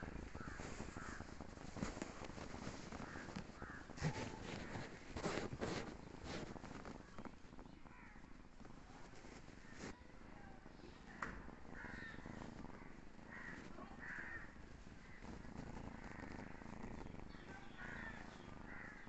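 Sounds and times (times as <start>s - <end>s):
kitten snoring softly: 0.0s - 19.0s.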